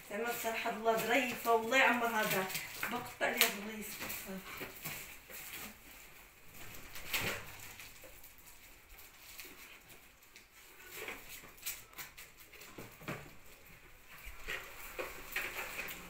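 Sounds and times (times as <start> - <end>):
wrapping paper rustling: 0.0 - 16.0.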